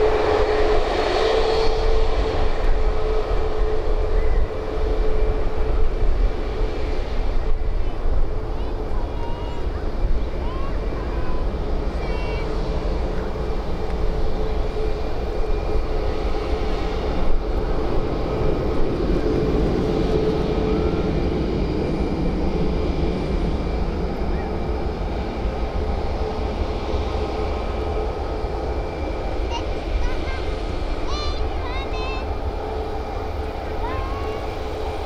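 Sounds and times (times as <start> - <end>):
jet engine whining tones: 0.0 - 35.0
jet engines rushing: 0.0 - 35.0.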